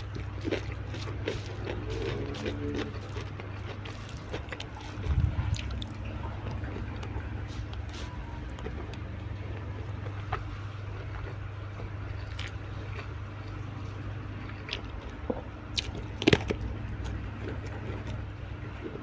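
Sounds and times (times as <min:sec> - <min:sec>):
chewing food crunches and smacks: 0:00.0 - 0:19.0
steady low hum: 0:00.0 - 0:19.0.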